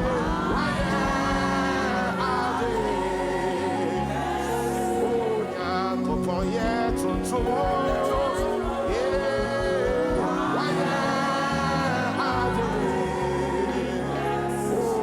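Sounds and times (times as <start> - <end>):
gospel worship music: 0.0 - 15.0
person singing: 0.0 - 15.0
sustained keyboard chords: 0.0 - 15.0.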